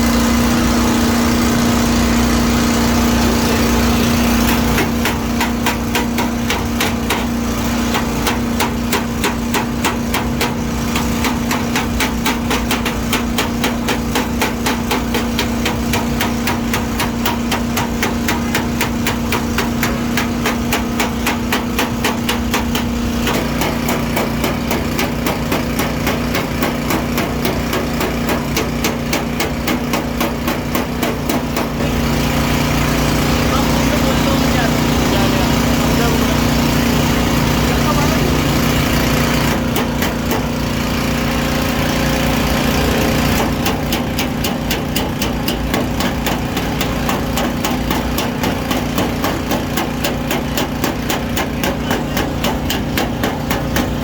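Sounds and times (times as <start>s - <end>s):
steady machine hum: 0.0s - 54.0s
hammer tapping sheet metal: 3.4s - 32.1s, 33.2s - 54.0s.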